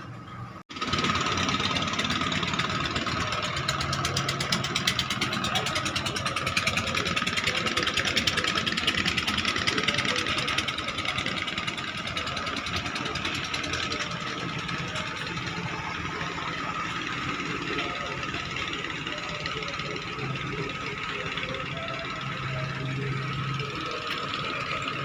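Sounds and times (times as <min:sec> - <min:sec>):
boat diesel engine running: 0:00.0 - 0:25.0.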